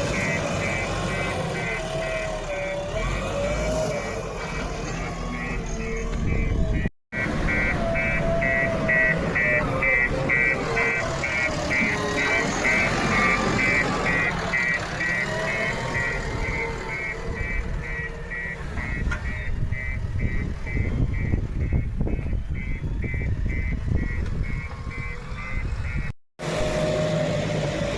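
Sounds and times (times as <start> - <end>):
electronic warning beeper: 0.0 - 26.1
diesel engine running: 0.0 - 27.9.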